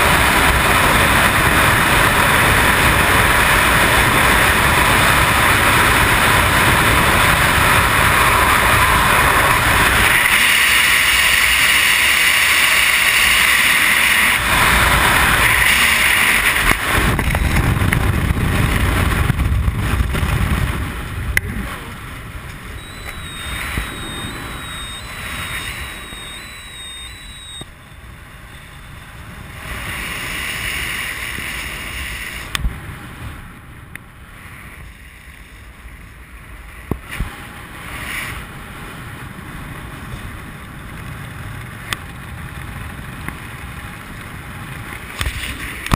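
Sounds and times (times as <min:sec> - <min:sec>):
wind rushing over camera: 0:00.0 - 0:45.9.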